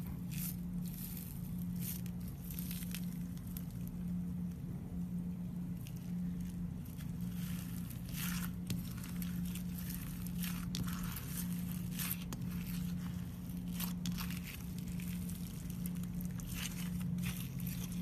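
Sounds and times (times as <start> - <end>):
slime crackling and squishing: 0.0 - 18.0
steady low hum: 0.0 - 18.0.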